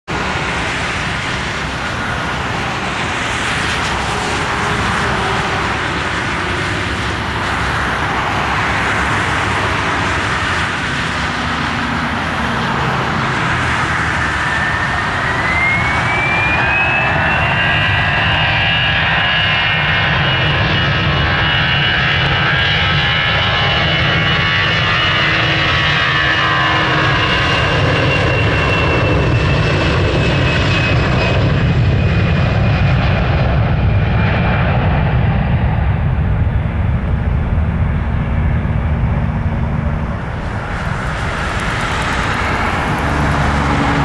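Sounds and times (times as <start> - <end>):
jet engines spooling up: 0.1 - 44.0.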